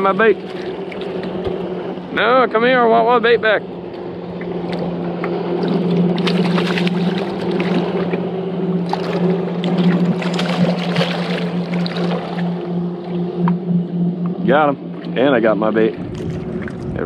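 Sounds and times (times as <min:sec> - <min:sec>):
water splashes: 0:00.0 - 0:01.9, 0:03.6 - 0:13.6, 0:14.8 - 0:17.0
boat motor droning: 0:00.0 - 0:17.0.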